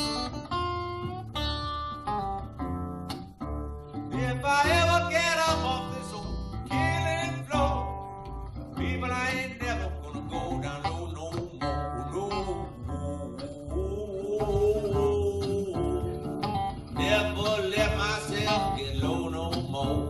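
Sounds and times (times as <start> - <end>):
acoustic guitar picked: 0.0 - 20.0.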